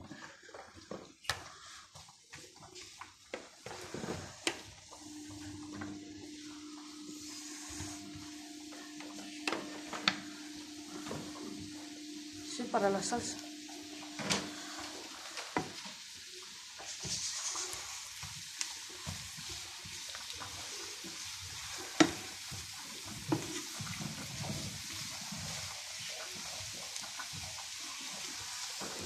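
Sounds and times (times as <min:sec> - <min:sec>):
vegetables sizzling in pan: 0:00.0 - 0:29.0.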